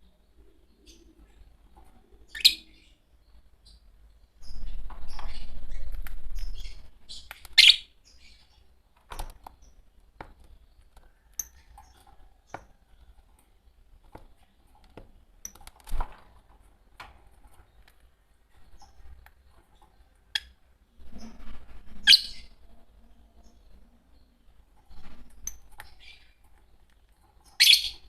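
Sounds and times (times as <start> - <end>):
lovebirds chirping: 0.0 - 15.7, 16.3 - 28.0.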